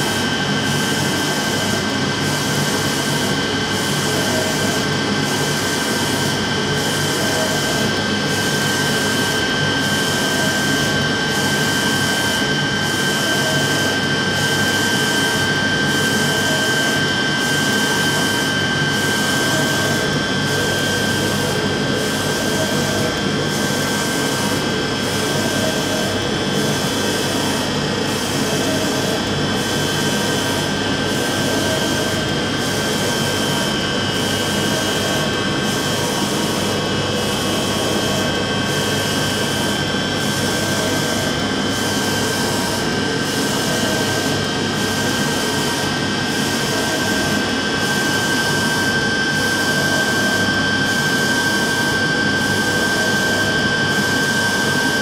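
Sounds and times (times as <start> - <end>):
printer mechanical whir: 0.0 - 55.0.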